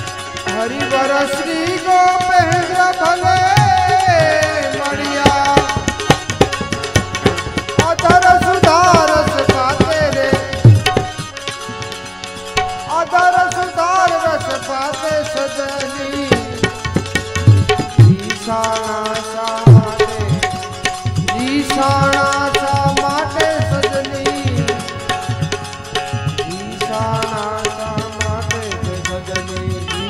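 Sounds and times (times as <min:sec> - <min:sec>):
rapid tabla beat: 0:00.0 - 0:30.0
sustained accompaniment: 0:00.0 - 0:30.0.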